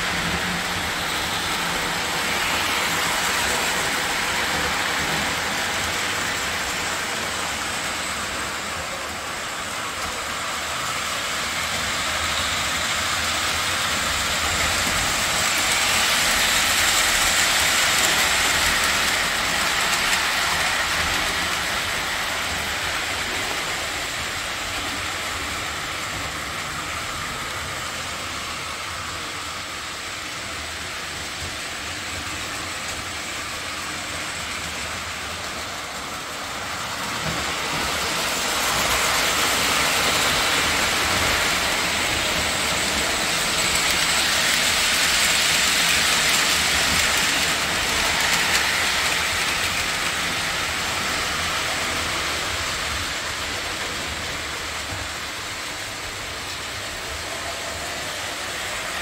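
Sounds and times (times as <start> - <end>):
model train rolling whir: 0.0 - 59.0.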